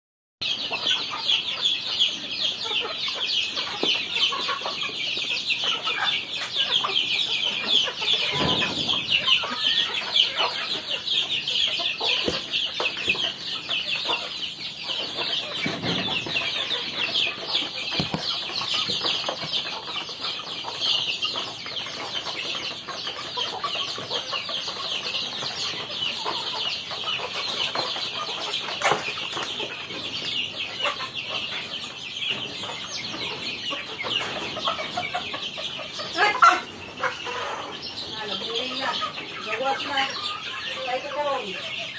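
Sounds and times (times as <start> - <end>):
chicks peeping and clucking: 0.4 - 41.9.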